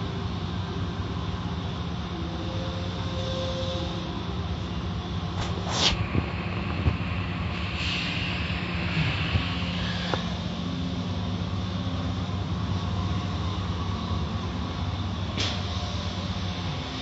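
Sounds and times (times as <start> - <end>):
car wash machinery drone: 0.0 - 17.0.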